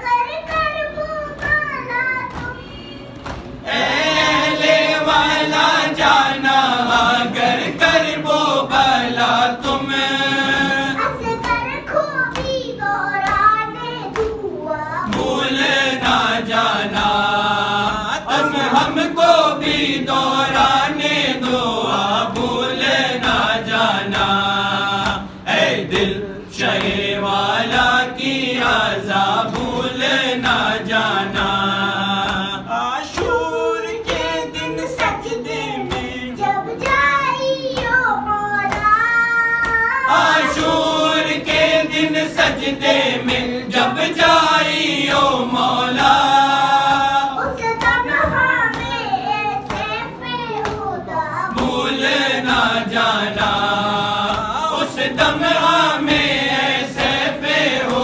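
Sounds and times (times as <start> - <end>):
voices chanting a lament: 3.2 - 58.0.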